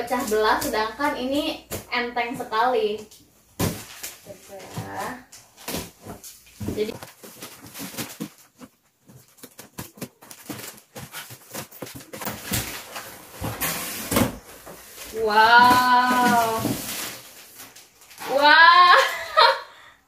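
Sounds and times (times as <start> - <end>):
tape and cardboard crackling: 0.0 - 1.9, 3.0 - 19.1.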